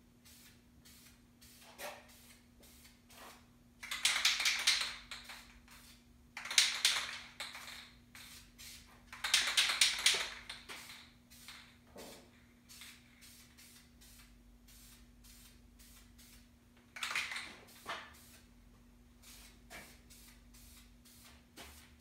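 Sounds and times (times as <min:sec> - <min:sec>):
spray paint can hissing: 0:00.2 - 0:12.1, 0:12.7 - 0:18.5, 0:19.2 - 0:22.0.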